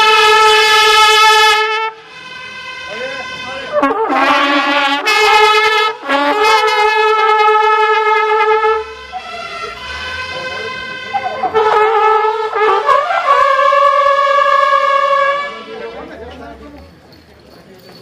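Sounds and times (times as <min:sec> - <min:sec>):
brass band playing chords: 0:00.0 - 0:16.2.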